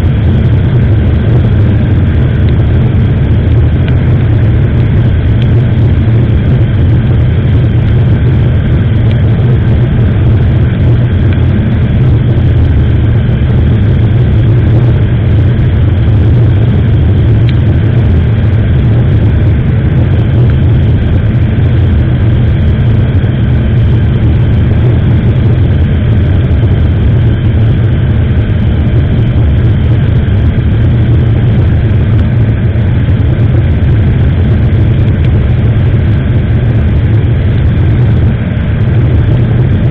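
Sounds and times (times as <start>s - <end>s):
heavy wind noise: 0.0s - 39.9s
motorcycle engine running: 0.0s - 39.9s.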